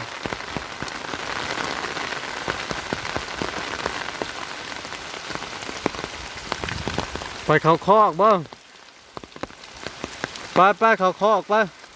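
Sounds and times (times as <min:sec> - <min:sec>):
heavy raindrops hitting: 0:00.0 - 0:11.9
steady rain falling: 0:00.0 - 0:11.9.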